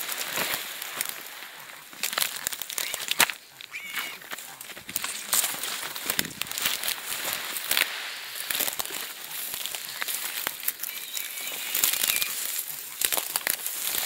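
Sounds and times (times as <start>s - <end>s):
dry grass rustling and crackling: 0.0s - 14.0s
twigs snapping: 0.0s - 14.0s.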